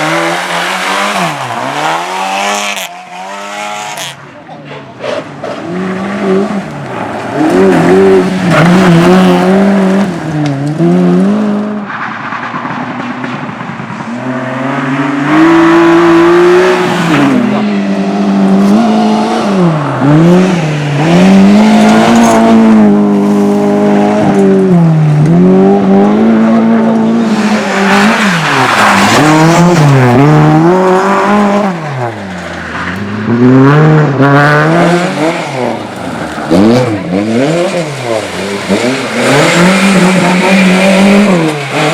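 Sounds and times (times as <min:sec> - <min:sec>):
race car engine revving: 0:00.0 - 0:12.7, 0:13.9 - 0:41.9.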